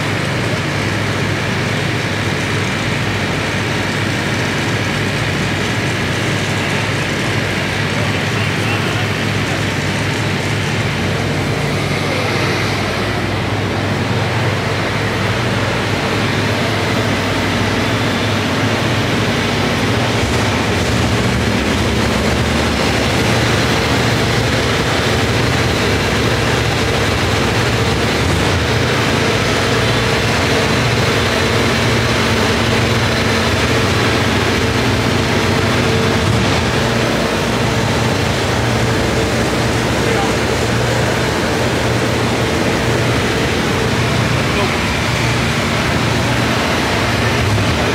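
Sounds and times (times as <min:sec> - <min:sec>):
machinery drone: 0:00.0 - 0:47.9.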